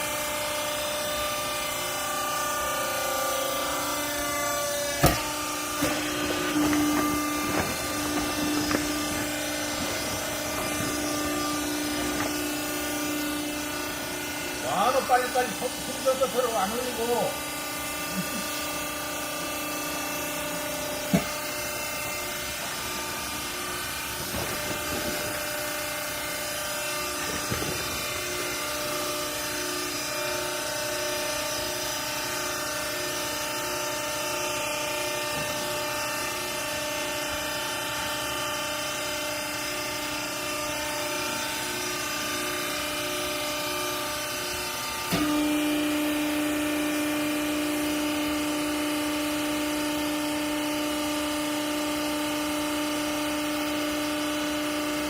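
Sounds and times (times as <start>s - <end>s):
pump motor humming: 0.0s - 55.0s.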